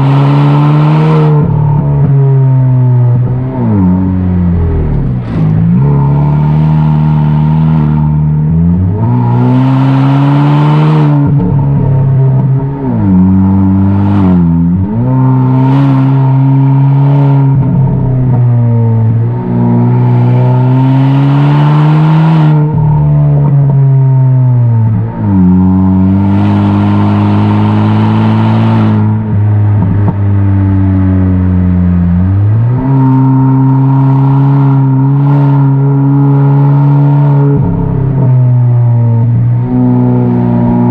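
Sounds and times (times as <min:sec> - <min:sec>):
car exhaust under acceleration: 0:00.0 - 0:40.9.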